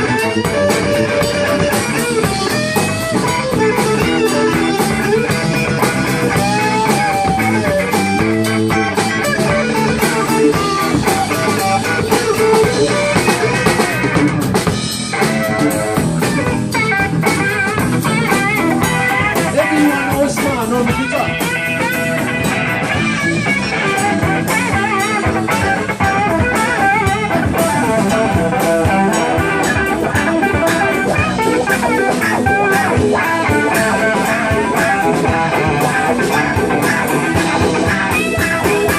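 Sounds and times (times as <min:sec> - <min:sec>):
drum kit: 0:00.0 - 0:38.9
electric guitar lines: 0:00.0 - 0:38.9.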